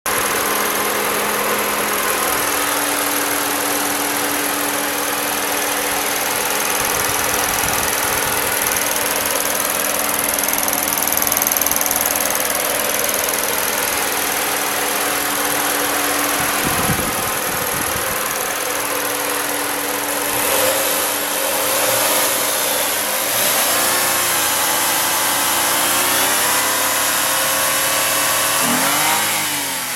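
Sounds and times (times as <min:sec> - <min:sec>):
car engine idling: 0:00.1 - 0:29.9.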